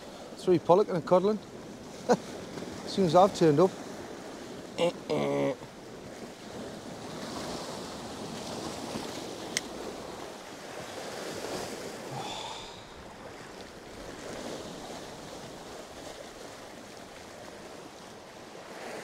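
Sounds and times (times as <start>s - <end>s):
surf washing against rocks: 0.0s - 19.0s.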